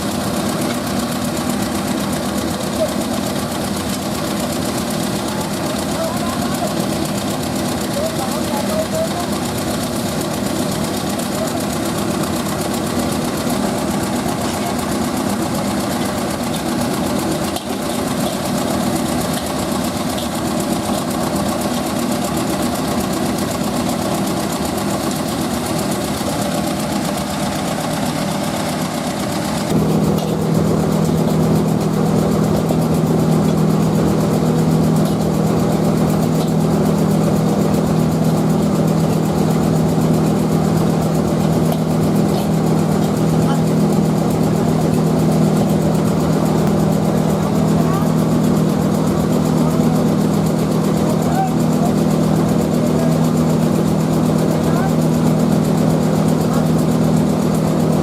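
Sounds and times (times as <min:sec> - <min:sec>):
motor running: 0:00.0 - 0:58.0.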